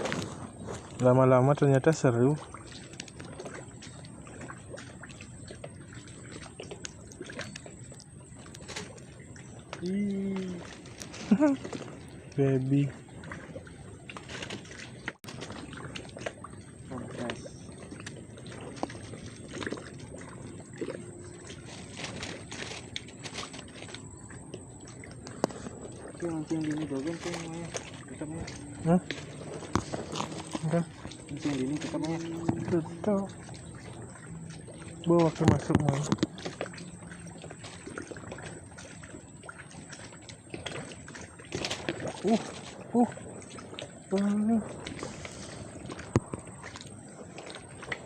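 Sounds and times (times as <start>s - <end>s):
water lapping and sloshing: 0.0s - 48.0s.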